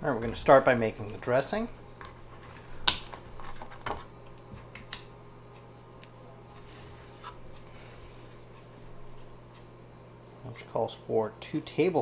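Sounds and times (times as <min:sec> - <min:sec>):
air fryer oven humming: 0:00.0 - 0:12.0.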